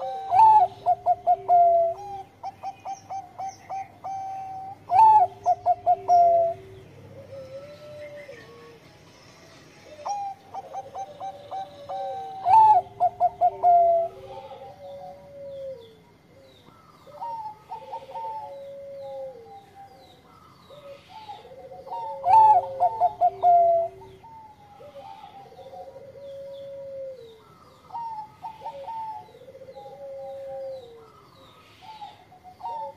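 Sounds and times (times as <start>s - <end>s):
dove cooing: 0.0s - 8.8s, 9.8s - 32.9s.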